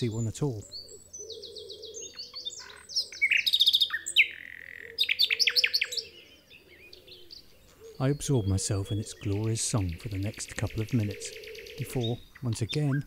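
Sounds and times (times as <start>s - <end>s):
nightingale singing: 0.0s - 13.0s.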